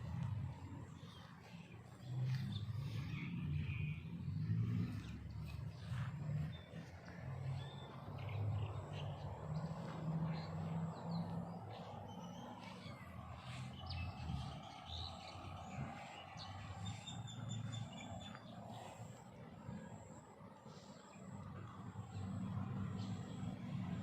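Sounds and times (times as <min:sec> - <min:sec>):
small birds chirping: 0:00.0 - 0:19.3.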